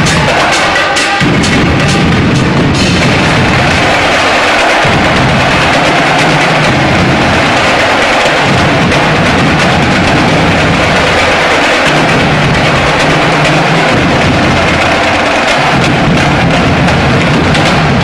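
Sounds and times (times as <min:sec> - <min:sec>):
snare drum line cadence: 0:00.0 - 0:18.0.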